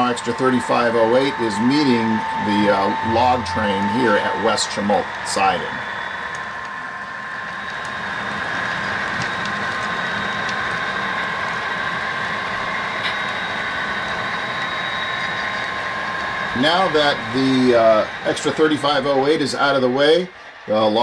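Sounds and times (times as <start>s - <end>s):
model locomotive engine sound: 0.0s - 21.0s
model train rolling on track: 0.0s - 21.0s.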